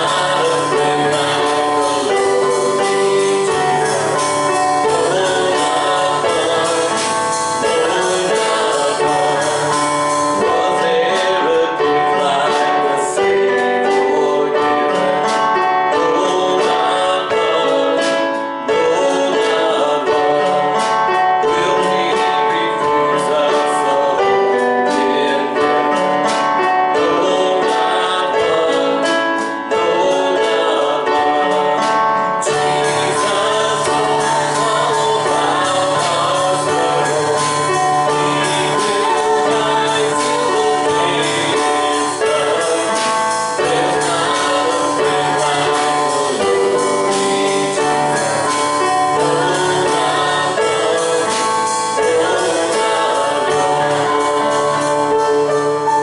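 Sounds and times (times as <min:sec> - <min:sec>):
gospel worship music: 0:00.0 - 0:56.0.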